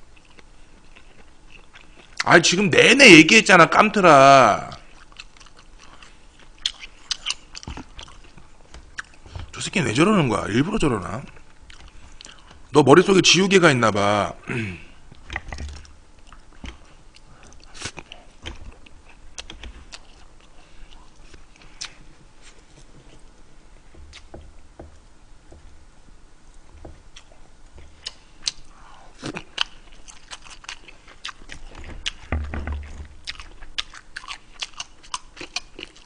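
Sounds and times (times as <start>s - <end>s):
person chewing food: 0.0s - 2.3s, 4.7s - 9.6s, 11.0s - 12.7s, 15.0s - 25.8s, 26.4s - 36.0s.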